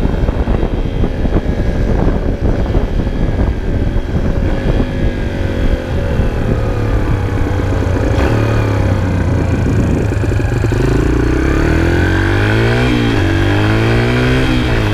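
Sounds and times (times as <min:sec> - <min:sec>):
dirt bike engine revving: 0:01.3 - 0:14.9.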